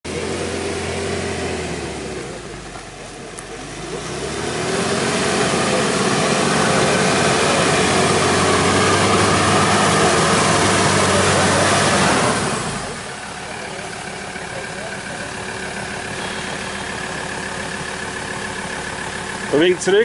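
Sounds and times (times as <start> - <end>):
pickup truck engine revving: 0.1 - 20.0.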